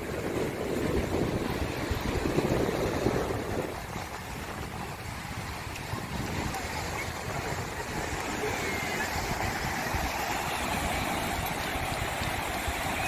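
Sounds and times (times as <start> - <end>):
ocean waves breaking: 0.0 - 13.0
wind buffeting microphone: 0.0 - 13.0.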